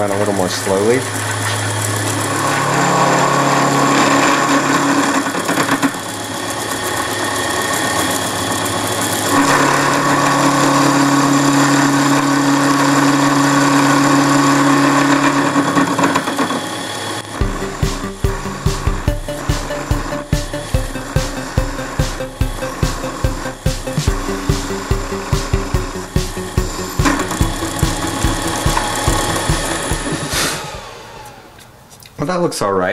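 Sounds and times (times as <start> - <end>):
end mill cutting aluminum: 0.0 - 23.4, 24.4 - 31.7
milling machine hum: 0.1 - 31.5.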